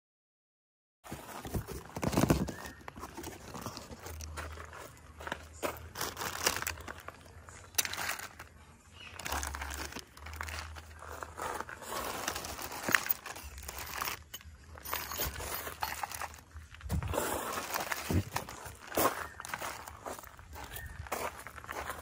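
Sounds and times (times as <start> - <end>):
cardboard rustling: 1.0 - 8.5, 9.2 - 20.9
plastic wrapping crinkling: 1.1 - 22.0.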